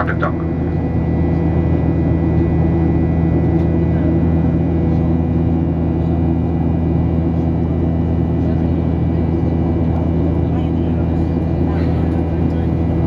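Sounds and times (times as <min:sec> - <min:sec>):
jet engine drone: 0:00.0 - 0:13.0.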